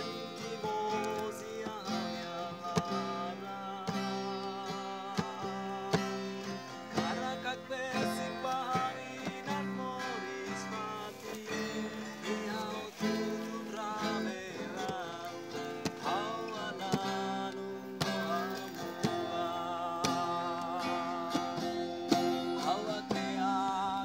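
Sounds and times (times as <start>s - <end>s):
man singing: 0.0s - 24.0s
strummed acoustic guitar: 0.0s - 24.0s.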